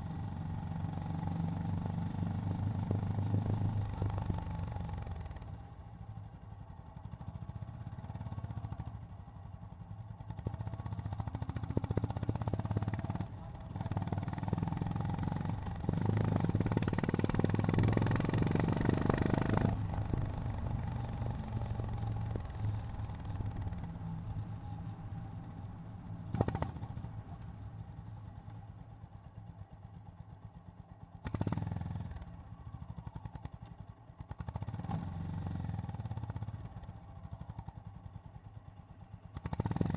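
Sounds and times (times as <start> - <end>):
motorcycle engine running: 0.2 - 39.9.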